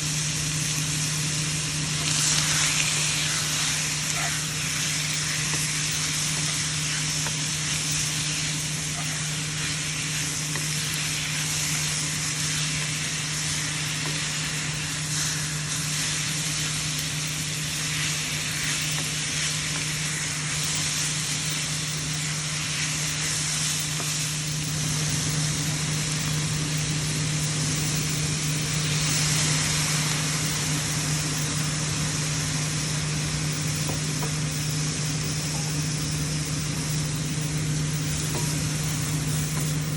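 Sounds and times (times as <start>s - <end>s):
food sizzling in a hot pan: 0.0s - 39.9s
steady low hum: 0.0s - 39.9s.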